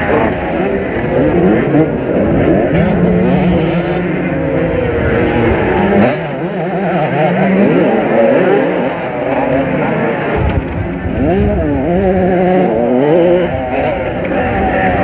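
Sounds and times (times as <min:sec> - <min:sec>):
motorcycles racing past: 0:00.0 - 0:15.0.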